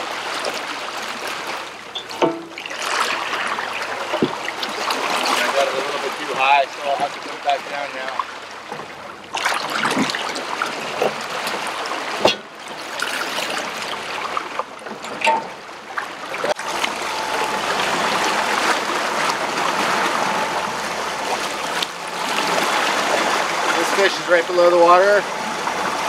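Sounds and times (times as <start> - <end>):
water rushing along boat hull: 0.0 - 26.0.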